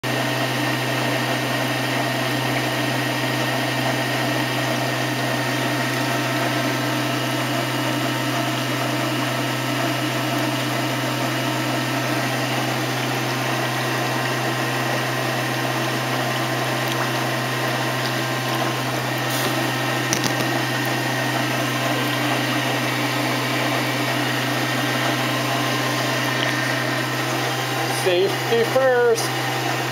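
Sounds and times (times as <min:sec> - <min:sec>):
oil boiling and seething: 0:00.0 - 0:29.9.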